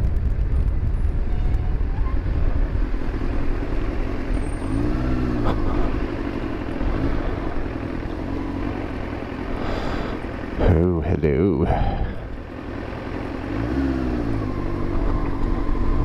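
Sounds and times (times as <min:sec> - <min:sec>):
motorcycle engine running: 0:00.0 - 0:10.8, 0:12.2 - 0:16.0
wind and road rumble: 0:00.0 - 0:16.0.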